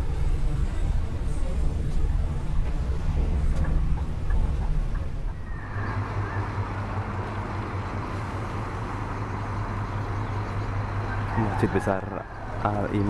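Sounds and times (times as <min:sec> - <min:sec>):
bus engine rumble: 0:00.0 - 0:13.0
engine idling: 0:00.0 - 0:13.0.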